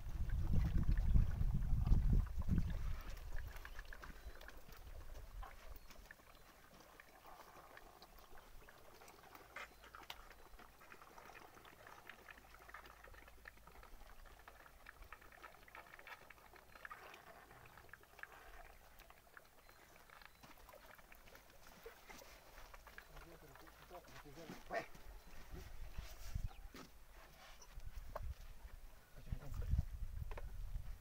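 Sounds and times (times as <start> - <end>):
elephant calves slurping milk: 0.0 - 28.8.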